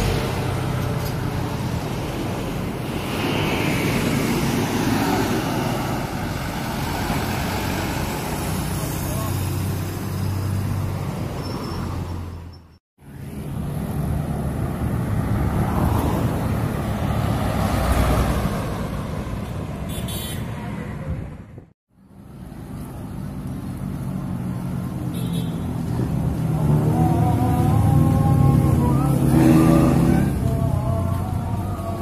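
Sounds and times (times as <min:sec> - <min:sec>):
truck engines running: 0:00.0 - 0:19.9, 0:20.9 - 0:32.0
traffic noise: 0:00.0 - 0:32.0.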